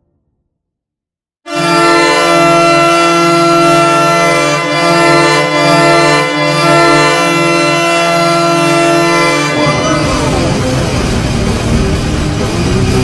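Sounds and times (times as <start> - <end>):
layered goal horn blast: 1.5 - 12.8.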